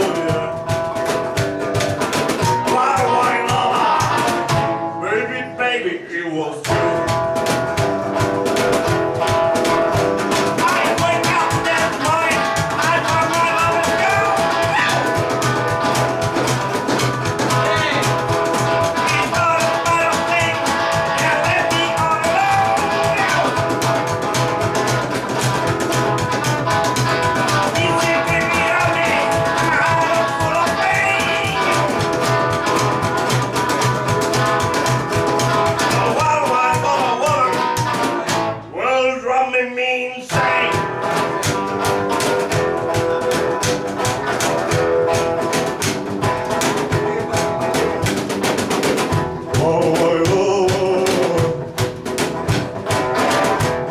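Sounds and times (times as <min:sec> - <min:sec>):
electric guitar: 0:00.0 - 0:05.9, 0:06.6 - 0:39.1, 0:40.3 - 0:53.9
upright double bass: 0:00.0 - 0:39.0, 0:40.3 - 0:53.9
rock and roll band playing: 0:00.0 - 0:53.9.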